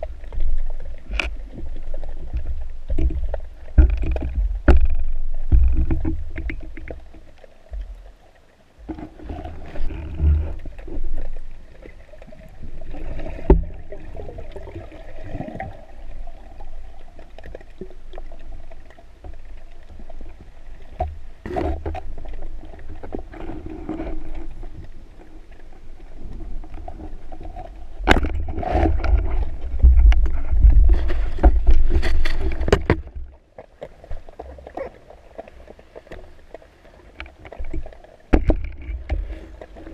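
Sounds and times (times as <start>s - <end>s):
muffled underwater rumble and sloshing: 0.0s - 39.9s.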